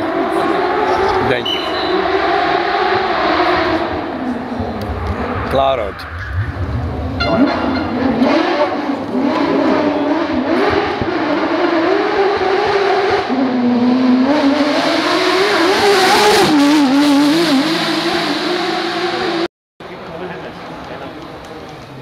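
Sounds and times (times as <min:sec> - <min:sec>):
rally car engine at full throttle: 0:00.0 - 0:19.5.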